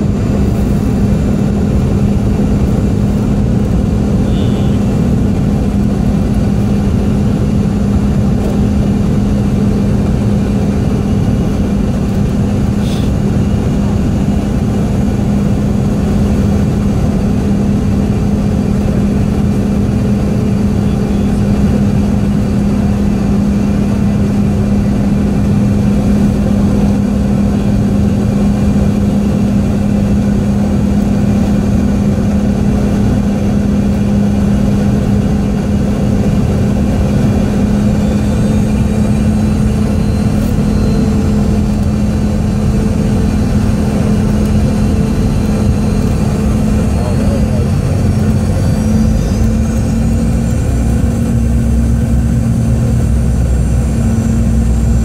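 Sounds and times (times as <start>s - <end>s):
airflow rushing in aircraft cabin: 0.0s - 55.0s
constant low hum: 0.0s - 55.0s
jet engines: 0.0s - 55.0s.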